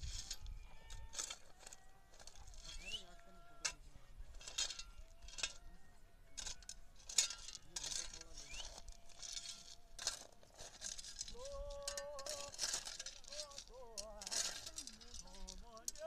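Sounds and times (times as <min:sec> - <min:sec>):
plough scraping stony soil: 0:00.0 - 0:05.7, 0:06.3 - 0:16.0.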